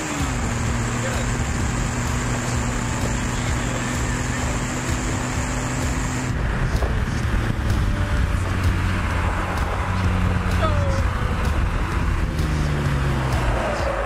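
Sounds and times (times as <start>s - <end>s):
car engine running: 0.0s - 14.0s
wind and road noise: 0.0s - 14.0s.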